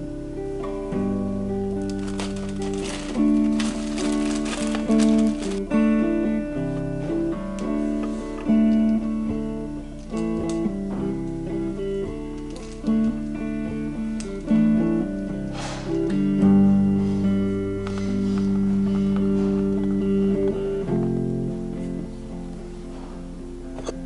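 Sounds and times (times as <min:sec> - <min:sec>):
guitar music: 0:00.0 - 0:24.0.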